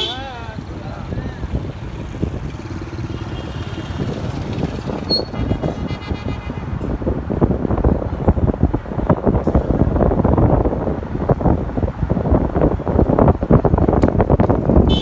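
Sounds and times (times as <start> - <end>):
road noise and engine rumble: 0.0 - 15.0
wind buffeting microphone: 0.0 - 15.0.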